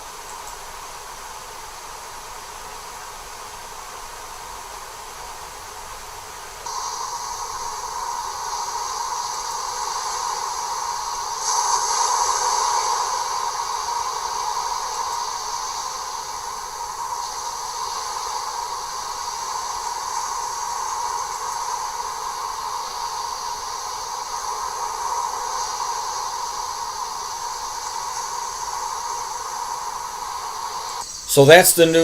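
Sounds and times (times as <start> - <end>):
steady hiss: 0.0 - 32.0.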